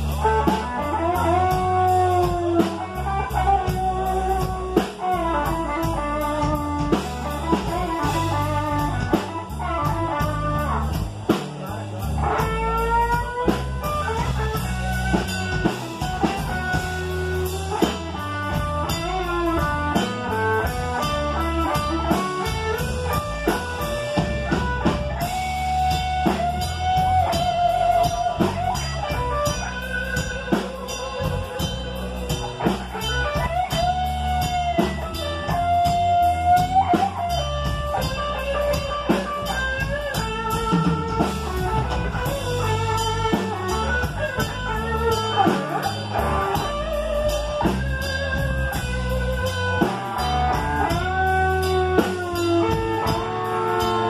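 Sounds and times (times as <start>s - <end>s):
drum kit: 0.0s - 54.0s
electric bass: 0.0s - 54.0s
electric guitar solo: 0.2s - 11.0s, 12.2s - 54.0s.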